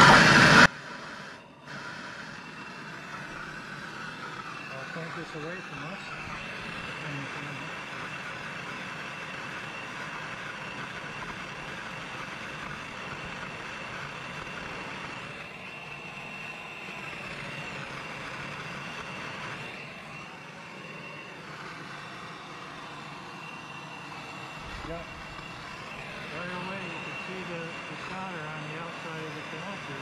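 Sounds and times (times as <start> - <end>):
gas torch flame hissing: 0.0 - 30.0
steady high whistle: 0.0 - 30.0.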